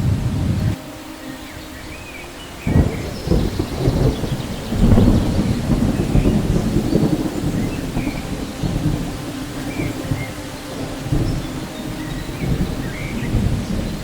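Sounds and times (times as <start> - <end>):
rain hiss: 0.0 - 14.0
thunder rumbling: 0.0 - 14.0.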